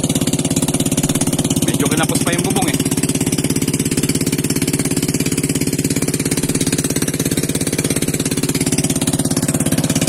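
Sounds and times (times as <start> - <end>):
small boat engine running: 0.0 - 10.0.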